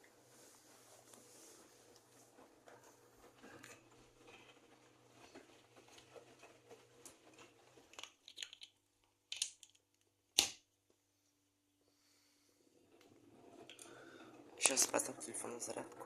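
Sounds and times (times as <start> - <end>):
washing machine hum: 0.0 - 9.3, 12.0 - 16.0.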